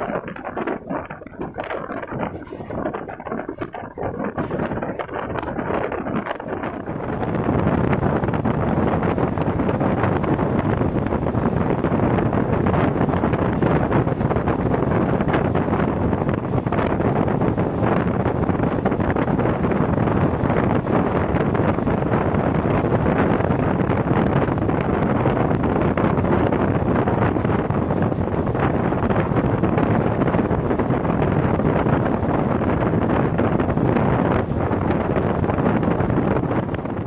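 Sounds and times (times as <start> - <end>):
train running noise: 0.0 - 37.0
wind buffeting microphone: 0.0 - 37.0.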